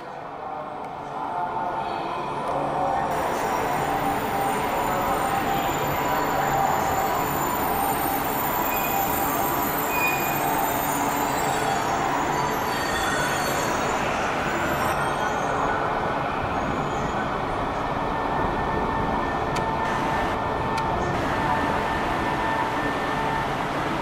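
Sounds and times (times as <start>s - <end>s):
train idling at platform: 0.0s - 24.0s.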